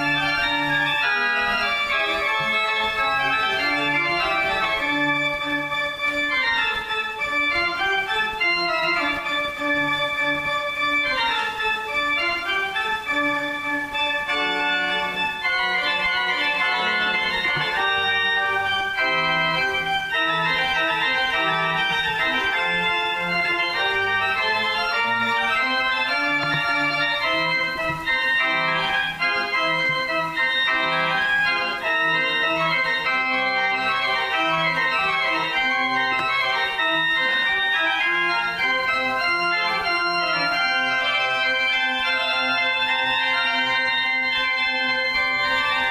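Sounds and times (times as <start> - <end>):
organ music: 0.0 - 45.9.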